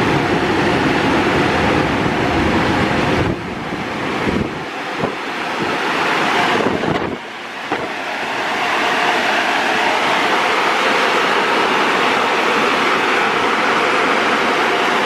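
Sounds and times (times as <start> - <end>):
car wash air dryers blowing: 0.0 - 15.0.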